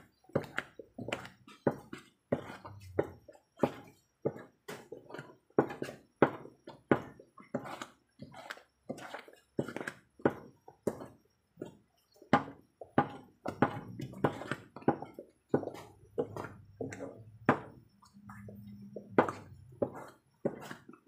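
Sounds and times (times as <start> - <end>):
utensil stirring in a pan: 0.0 - 21.0.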